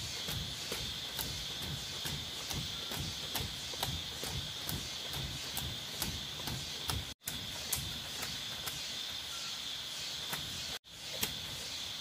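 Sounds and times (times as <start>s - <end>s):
insect chorus drone: 0.0s - 12.0s
insect ticking: 0.0s - 12.0s.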